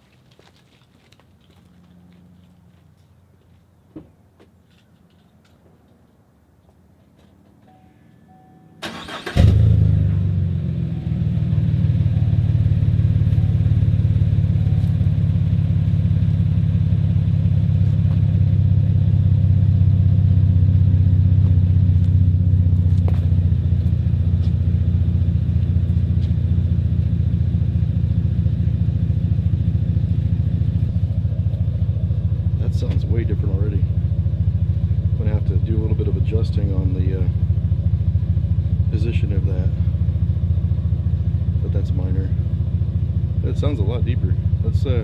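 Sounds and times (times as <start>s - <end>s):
truck engine starting and idling: 8.3s - 45.0s.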